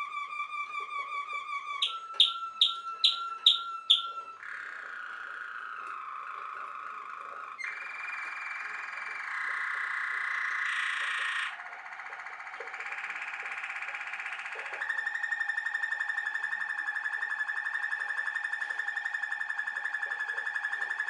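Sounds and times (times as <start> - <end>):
canary singing trills: 0.0 - 21.0.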